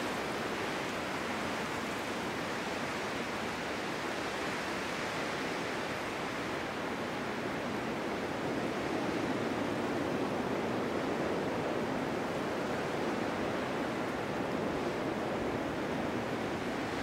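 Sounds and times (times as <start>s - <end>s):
snowstorm wind blowing: 0.0s - 17.0s.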